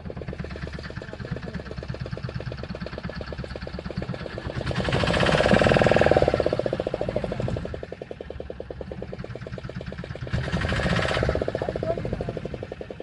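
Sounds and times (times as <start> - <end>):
boat engine knocking: 0.0 - 13.0.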